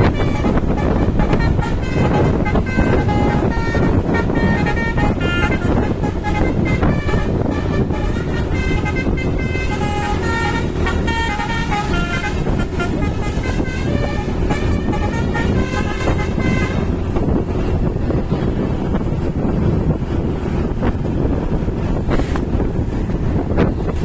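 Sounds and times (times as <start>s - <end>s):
multi-tone bus horn melody: 0.0s - 22.3s
road traffic rumble: 0.0s - 24.0s.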